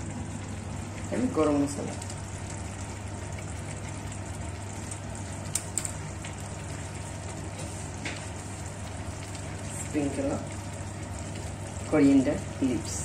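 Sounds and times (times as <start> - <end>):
curry bubbling: 0.0 - 13.0.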